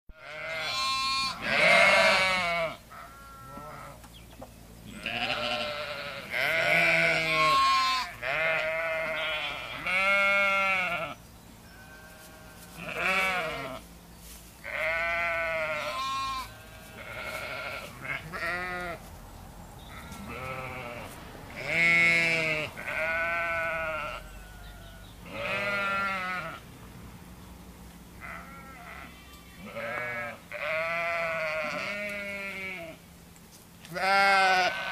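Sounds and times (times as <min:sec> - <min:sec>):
sheep and goats bleating: 0:00.1 - 0:04.0, 0:04.8 - 0:19.1, 0:19.8 - 0:26.6, 0:28.2 - 0:33.1, 0:33.8 - 0:34.9.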